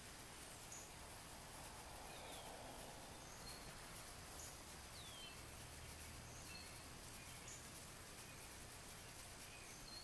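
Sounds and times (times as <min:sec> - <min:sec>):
faint steady hiss: 0:00.0 - 0:10.0
bird chirps: 0:00.6 - 0:01.0, 0:02.0 - 0:10.0.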